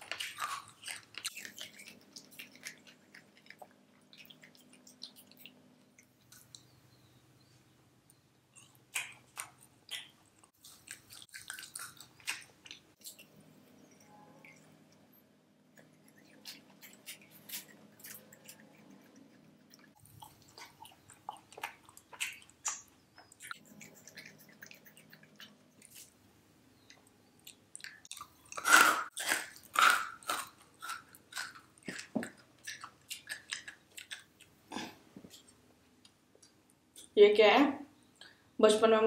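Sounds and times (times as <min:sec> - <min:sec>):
chewing jelly candy: 0:00.0 - 0:06.8, 0:08.5 - 0:15.0, 0:15.7 - 0:26.2, 0:26.8 - 0:37.2.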